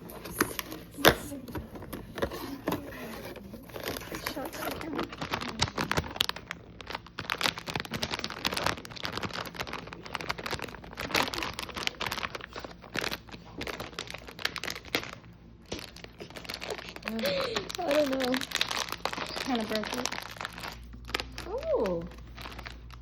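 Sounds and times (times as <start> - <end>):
packaging crinkling and tearing: 0.0 - 23.0.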